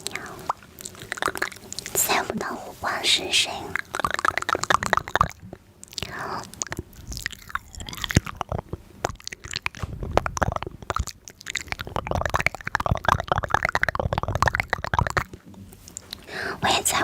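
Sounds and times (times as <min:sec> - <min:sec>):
crunchy chewing of food: 0:00.0 - 0:02.5, 0:03.7 - 0:16.3.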